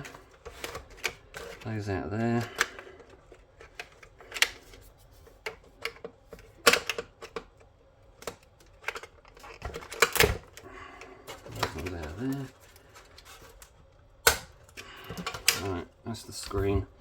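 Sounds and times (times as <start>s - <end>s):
clicks and knocks of small parts: 0.0s - 4.8s, 5.4s - 15.8s.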